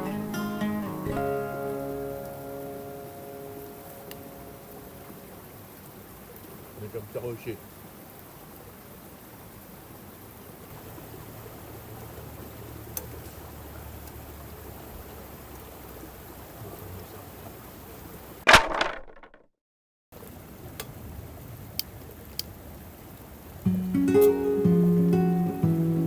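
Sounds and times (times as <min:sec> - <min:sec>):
campfire hissing and crackling: 0:00.0 - 0:18.4, 0:20.2 - 0:26.0.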